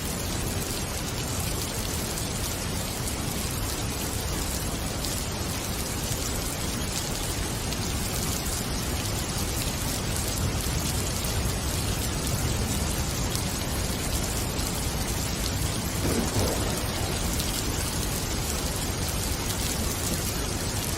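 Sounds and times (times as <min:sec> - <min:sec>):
steady rain patter: 0:00.0 - 0:20.9.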